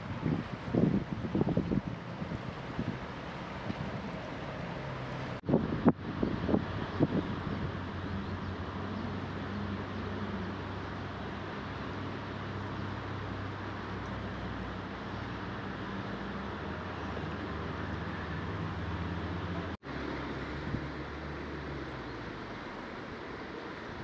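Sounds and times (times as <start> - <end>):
fast river rushing: 0.0 - 24.0.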